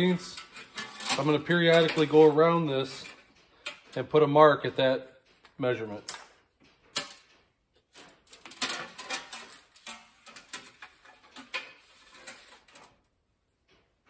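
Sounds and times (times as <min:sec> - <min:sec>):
metal pipe scraping and rattling: 0:00.0 - 0:05.4, 0:06.1 - 0:14.0.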